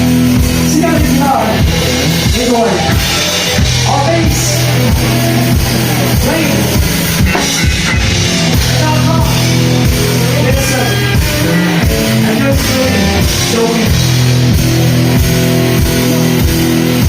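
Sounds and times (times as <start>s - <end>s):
drums keeping steady beat: 0.0s - 17.0s
rock band playing: 0.0s - 17.0s.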